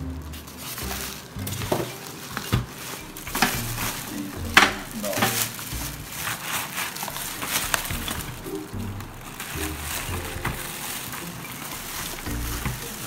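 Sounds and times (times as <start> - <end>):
plastic bag rustling and crinkling: 0.0 - 13.0.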